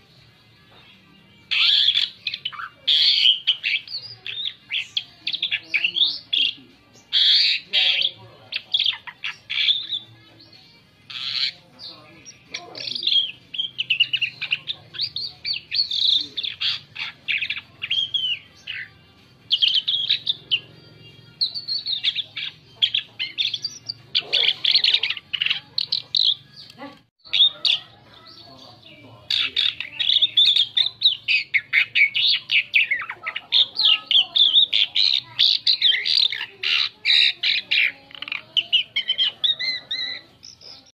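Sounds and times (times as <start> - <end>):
starling singing chattering song: 0.0 - 40.9.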